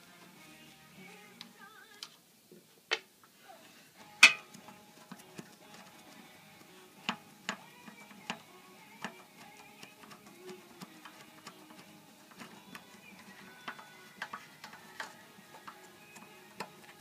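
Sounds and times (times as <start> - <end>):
faint music: 0.0 - 17.0.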